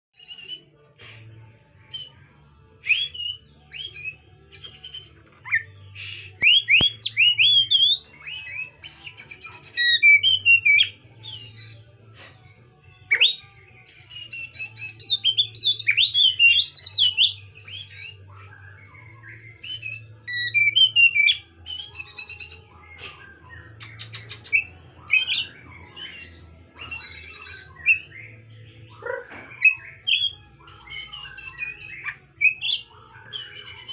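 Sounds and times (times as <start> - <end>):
bird singing whistled phrases: 2.8 - 11.8, 13.1 - 33.9.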